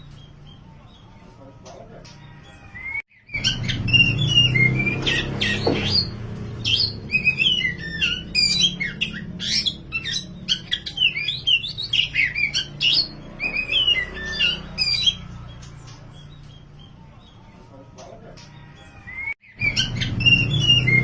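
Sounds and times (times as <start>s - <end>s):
magpie-robin singing: 0.0s - 21.0s.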